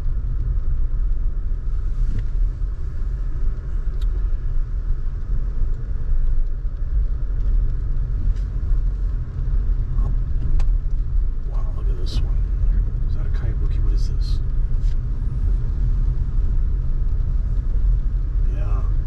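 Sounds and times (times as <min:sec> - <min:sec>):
car interior driving rumble: 0:00.0 - 0:19.0.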